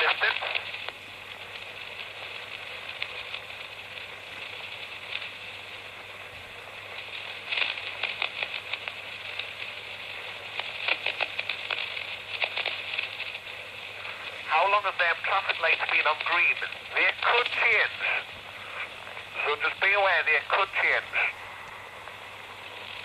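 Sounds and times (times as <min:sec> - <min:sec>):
radio crackle bursts: 0:00.0 - 0:23.0
radio speaker hiss: 0:00.0 - 0:23.0.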